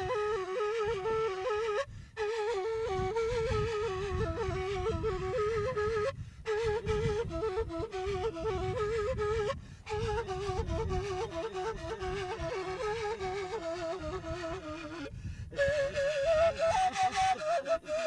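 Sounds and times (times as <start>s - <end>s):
flute-like wind instrument melody: 0.0s - 18.0s.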